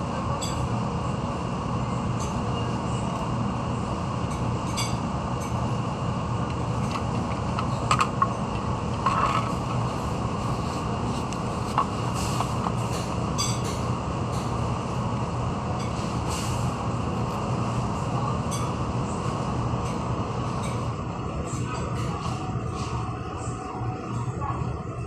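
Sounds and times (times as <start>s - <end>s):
machinery hum and rumble: 0.0s - 25.0s.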